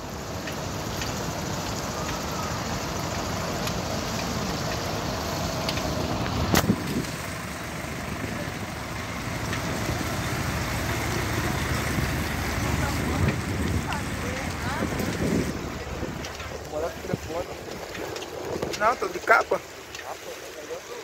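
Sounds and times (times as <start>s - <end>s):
traffic idling rumble: 0.0s - 21.0s.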